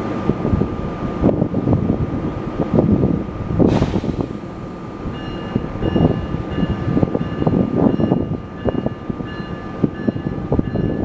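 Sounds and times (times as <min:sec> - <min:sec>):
electric locomotive high whine: 0:00.0 - 0:11.0
wind rumbling on microphone: 0:00.0 - 0:11.0.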